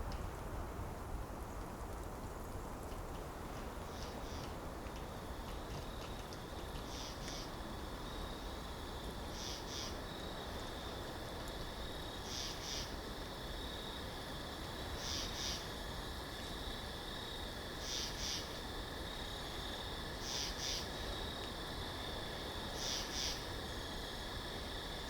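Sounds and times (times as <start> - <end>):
forest wind: 0.0 - 25.0.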